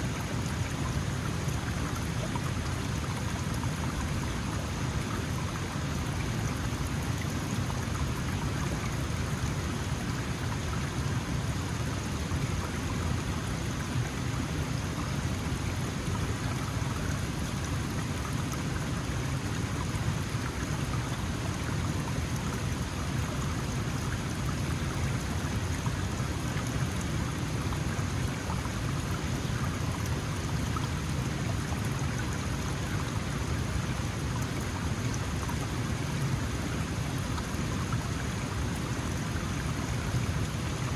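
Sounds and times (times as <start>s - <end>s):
stream flowing over stones: 0.0s - 40.9s.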